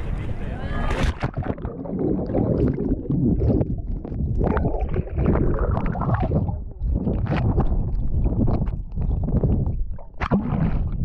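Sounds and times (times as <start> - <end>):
muffled underwater sloshing: 0.0 - 11.0.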